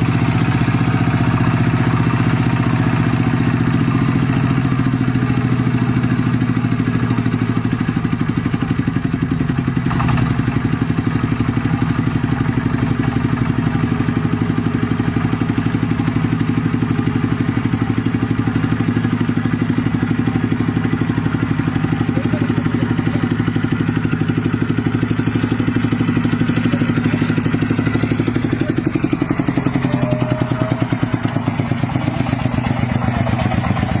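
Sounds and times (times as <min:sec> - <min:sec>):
tractor engine chugging: 0:00.0 - 0:34.0.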